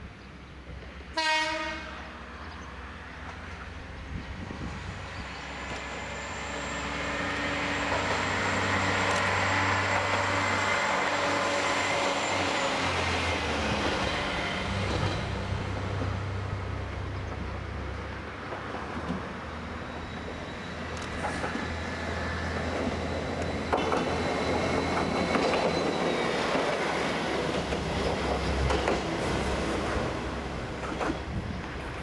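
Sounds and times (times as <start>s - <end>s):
train running past: 0.0s - 32.0s.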